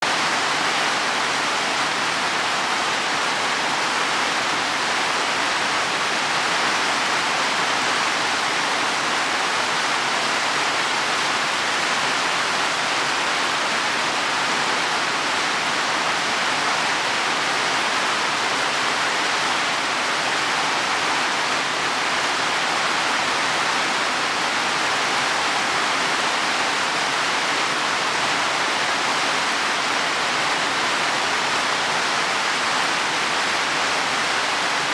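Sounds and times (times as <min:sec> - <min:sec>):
heavy rain on leaves: 0:00.0 - 0:34.9.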